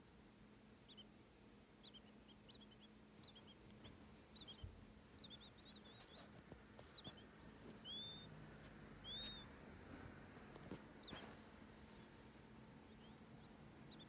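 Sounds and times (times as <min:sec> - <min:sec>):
quail chicks peeping: 0:00.0 - 0:14.0.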